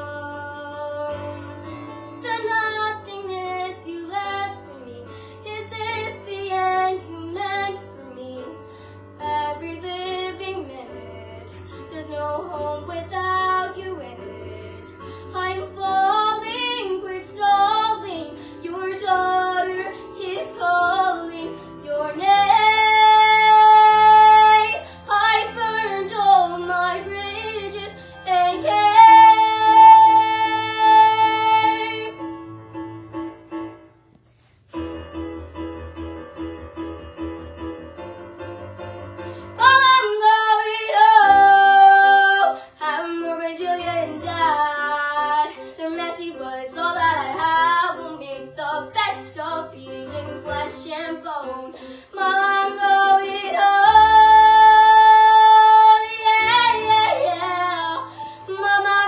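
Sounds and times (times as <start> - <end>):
instrumental accompaniment: 0.0 - 59.0
girl singing: 2.2 - 8.6, 9.2 - 32.1, 39.6 - 59.0.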